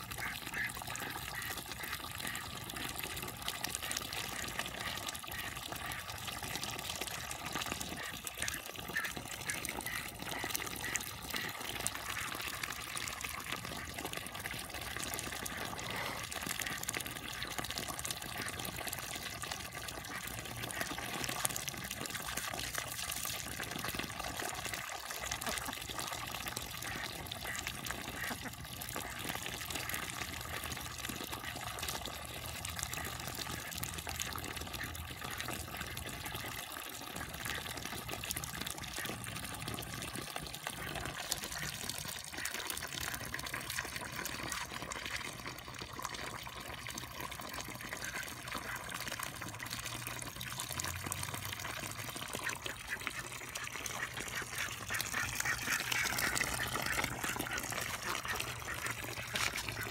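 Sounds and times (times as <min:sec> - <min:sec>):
water splashing into puddle: 0:00.0 - 0:59.9.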